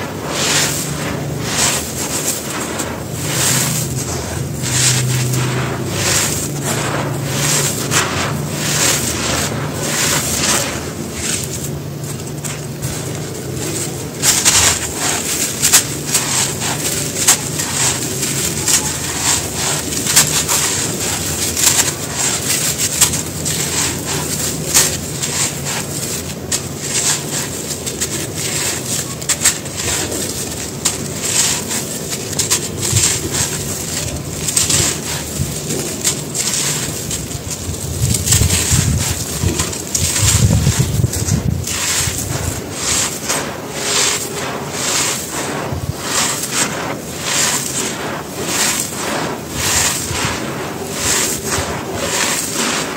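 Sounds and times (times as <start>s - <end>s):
grit pouring: 0.0s - 52.9s
hands crumbling dry stone: 0.0s - 52.9s.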